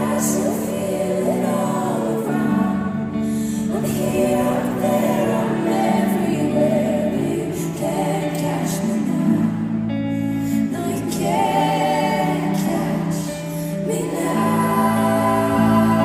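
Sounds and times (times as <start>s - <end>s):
backing singers in harmony: 0.0s - 16.0s
female lead singer singing: 0.0s - 16.0s.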